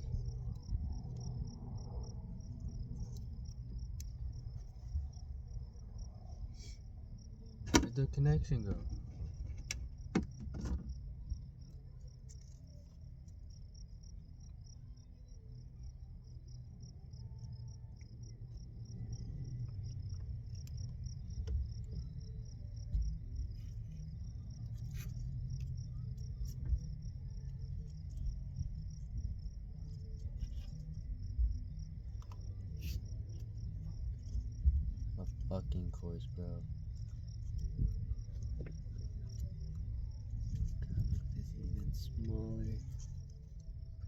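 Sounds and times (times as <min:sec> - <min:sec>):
crickets chirping: 0:00.0 - 0:44.0
low rumble: 0:00.0 - 0:44.0.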